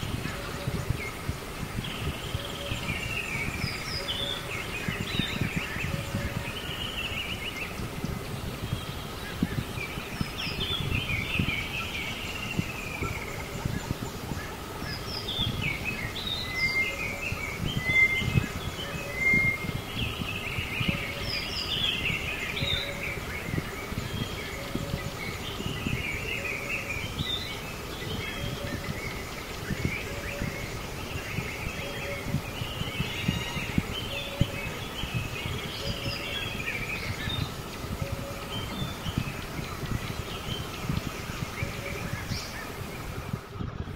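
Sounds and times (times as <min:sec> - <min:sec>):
birds chirping and twittering: 0:00.0 - 0:43.9.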